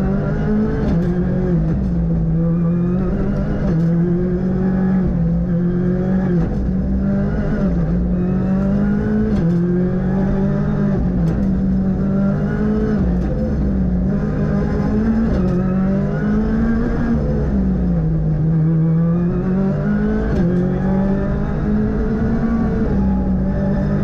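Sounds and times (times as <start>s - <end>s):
car engine running hard: 0.0s - 24.0s.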